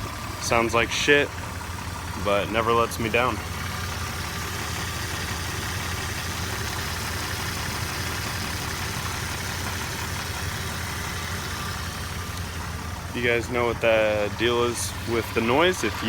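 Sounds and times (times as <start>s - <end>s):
car engine idling with tick: 0.0s - 16.0s.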